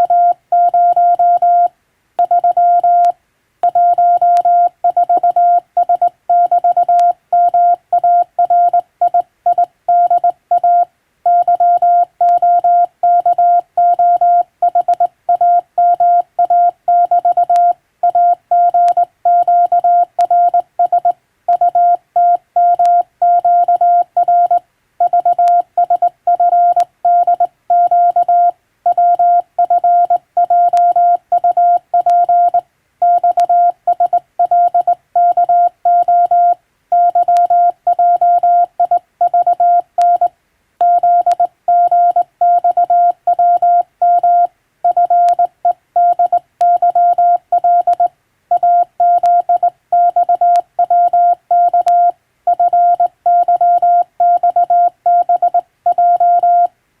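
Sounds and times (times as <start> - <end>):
morse code beeps: 0.0 - 56.7.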